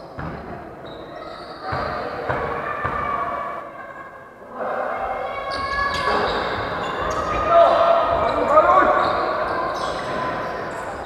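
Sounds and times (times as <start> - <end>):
echoing hall noise: 0.0 - 11.0.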